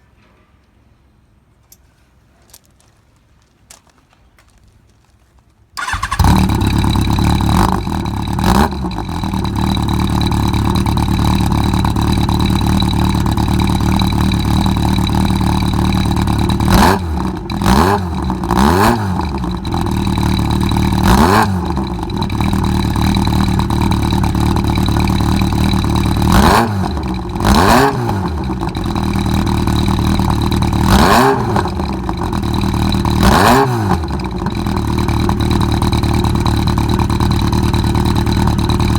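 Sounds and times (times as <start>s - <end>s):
engine throttle blips: 5.8s - 38.9s
motorcycle engine starting and idling: 5.8s - 38.9s.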